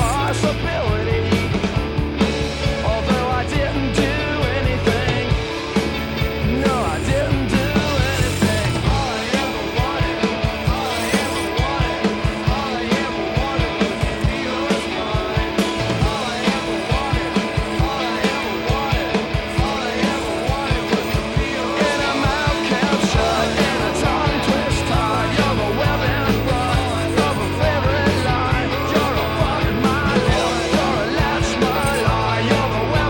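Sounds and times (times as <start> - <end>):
rock song with singing: 0.0 - 33.0
steady drum beat: 0.0 - 33.0.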